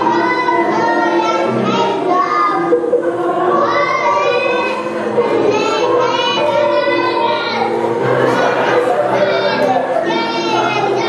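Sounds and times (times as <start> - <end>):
young children singing: 0.0 - 11.0.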